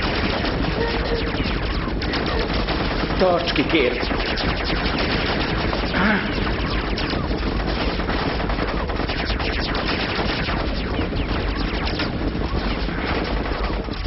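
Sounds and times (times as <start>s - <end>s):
rapid gunfire: 0.0s - 14.0s.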